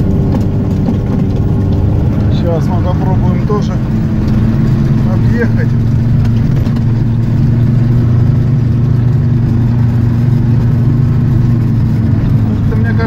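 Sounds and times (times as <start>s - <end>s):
off-road vehicle engine under load: 0.0s - 13.0s.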